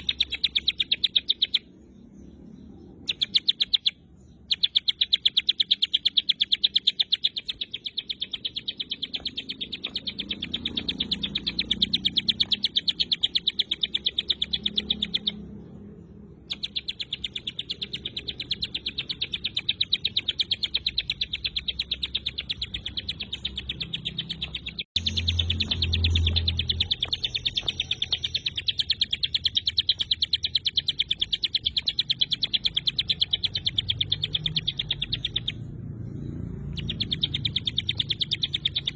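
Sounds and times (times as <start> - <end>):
bird singing sharp chip notes: 0.0 - 38.9.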